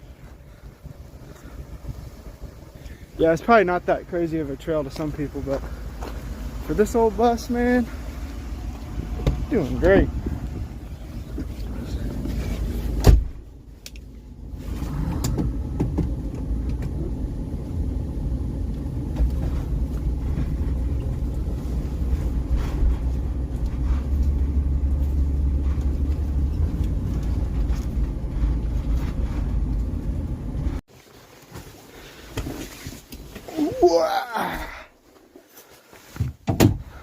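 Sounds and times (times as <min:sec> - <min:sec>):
bus engine and road rumble: 0:00.0 - 0:37.0.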